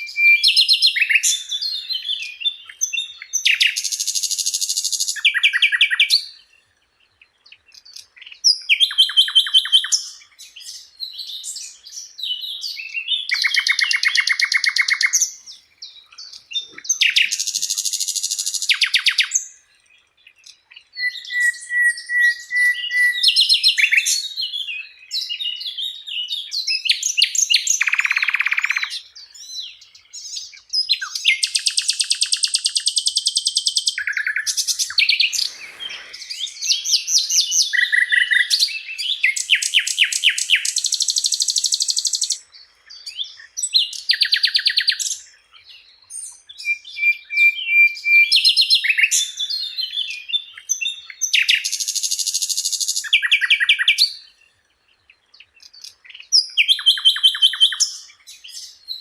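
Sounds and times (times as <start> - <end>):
flycatcher singing trills: 0.0 - 59.0.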